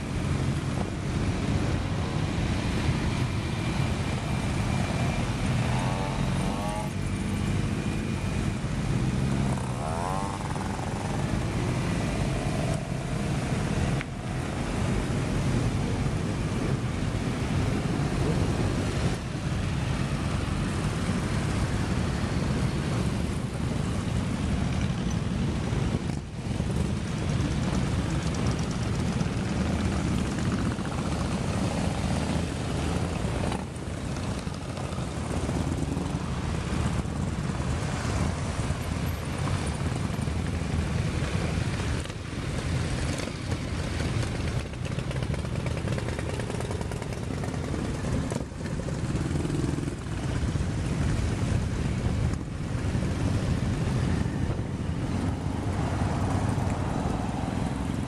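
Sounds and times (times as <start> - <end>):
motorcycles passing slowly: 0.0 - 58.0.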